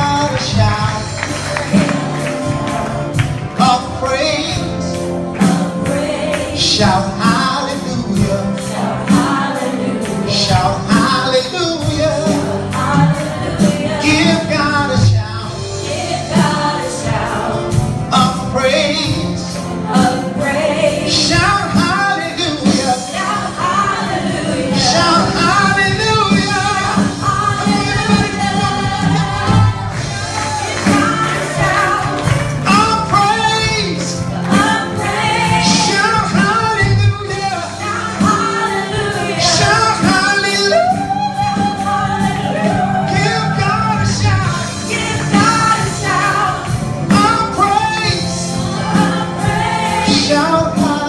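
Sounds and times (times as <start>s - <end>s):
gospel singers on microphones: 0.0s - 51.0s.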